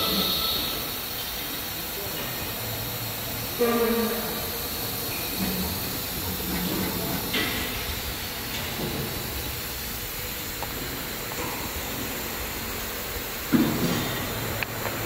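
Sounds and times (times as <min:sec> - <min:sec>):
workshop machinery hissing: 0:00.0 - 0:15.0.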